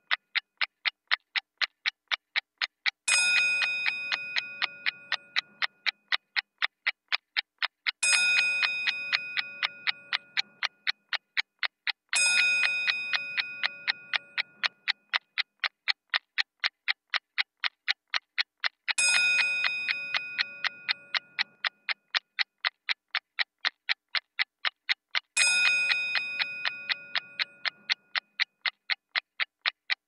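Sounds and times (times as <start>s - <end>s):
rapid clock ticking: 0.0s - 30.0s.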